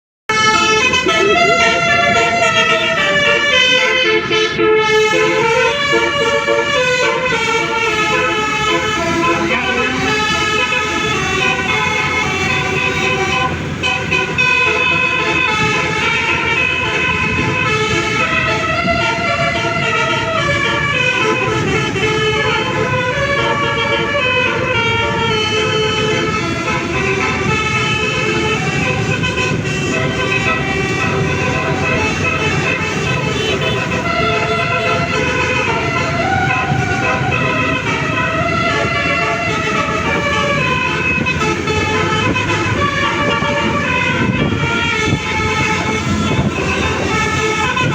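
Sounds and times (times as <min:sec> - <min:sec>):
musical bus horn playing a tune: 0:00.3 - 0:47.9.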